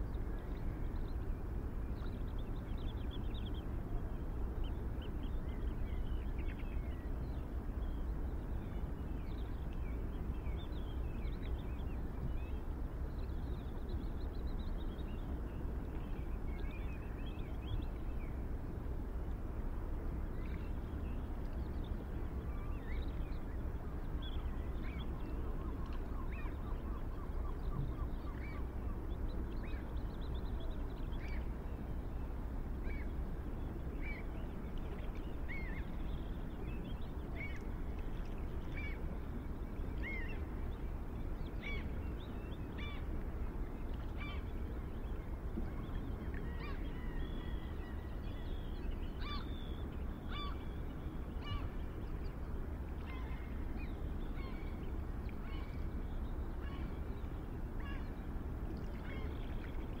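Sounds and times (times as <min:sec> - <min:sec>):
low background rumble: 0:00.0 - 1:00.0.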